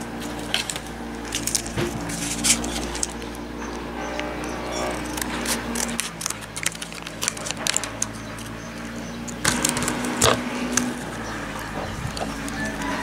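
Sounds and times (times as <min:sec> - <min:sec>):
steady low hum: 0:00.0 - 0:13.0
plastic crinkling and clicking: 0:00.2 - 0:13.0
scissors snipping plastic: 0:00.2 - 0:13.0.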